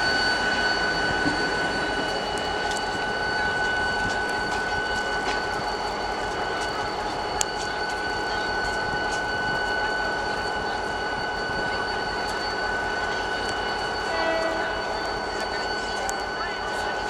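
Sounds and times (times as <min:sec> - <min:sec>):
diesel locomotive running: 0:00.0 - 0:17.0
steady high whine: 0:00.0 - 0:17.0.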